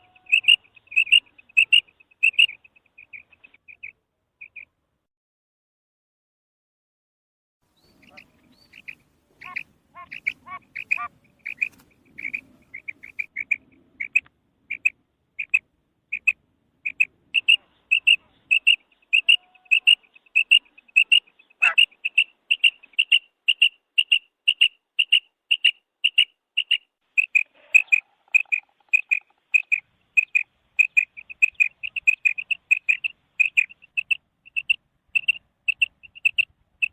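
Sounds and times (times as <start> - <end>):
quail calling: 0.0 - 4.6, 7.9 - 36.9.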